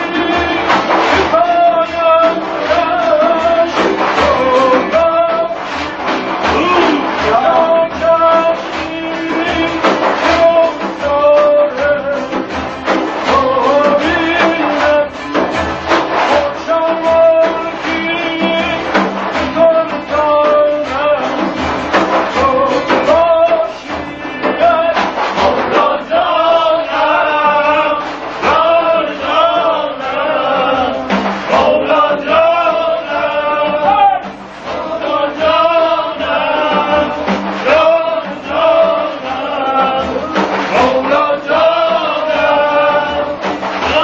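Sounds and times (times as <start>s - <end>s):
men singing a devotional chant: 0.0s - 15.6s, 16.2s - 44.0s
strummed lute: 0.0s - 44.0s.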